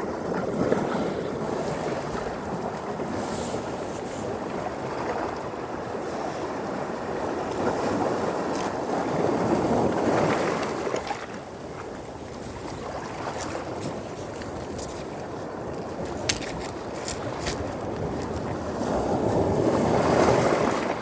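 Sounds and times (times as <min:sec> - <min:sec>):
sea waves washing onto beach: 0:00.0 - 0:21.0.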